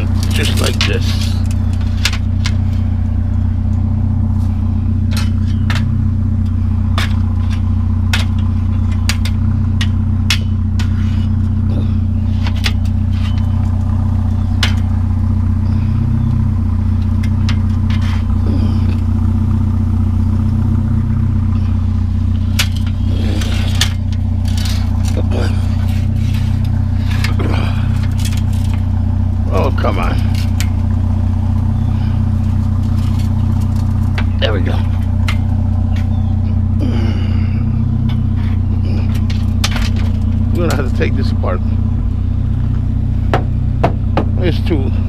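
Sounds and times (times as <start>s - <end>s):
metal clanks and rattles: 0.0s - 45.0s
truck engine idling: 0.0s - 45.0s.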